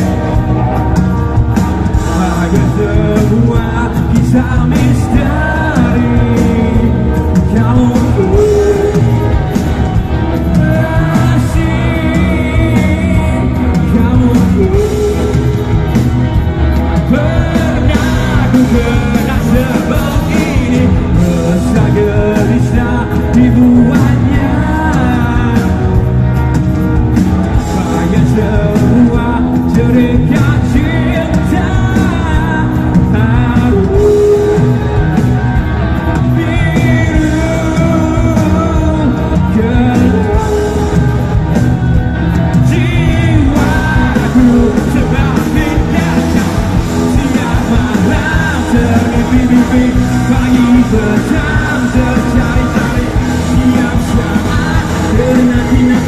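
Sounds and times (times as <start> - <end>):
electric guitars: 0.0 - 56.0
live rock band playing: 0.0 - 56.0
man singing lead vocal: 0.0 - 56.0.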